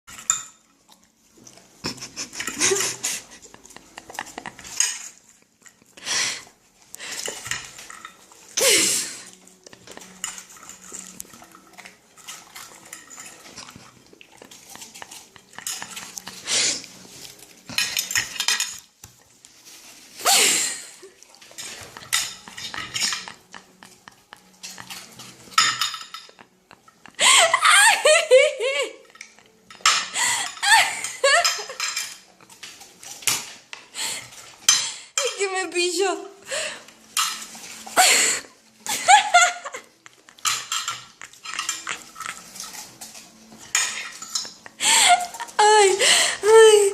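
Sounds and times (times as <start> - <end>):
dishes and cutlery clinking: 0.1 - 46.9.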